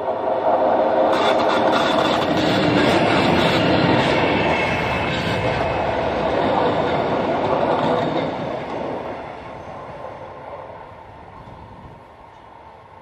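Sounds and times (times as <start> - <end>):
electric train passing on rails: 0.0 - 13.0.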